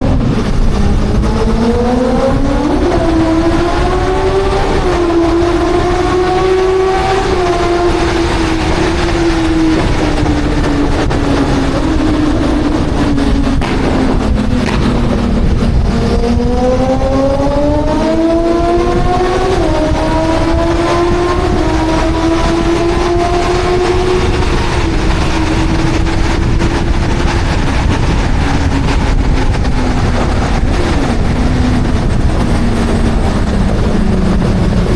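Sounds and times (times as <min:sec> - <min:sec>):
heavy rushing noise: 0:00.0 - 0:34.9
motorcycle engine running: 0:00.0 - 0:34.9.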